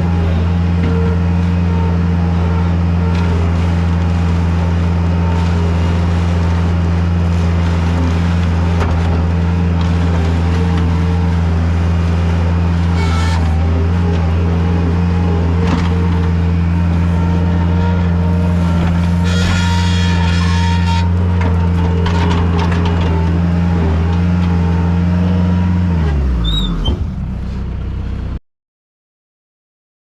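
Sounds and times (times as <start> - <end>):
diesel engine running: 0.0 - 28.4.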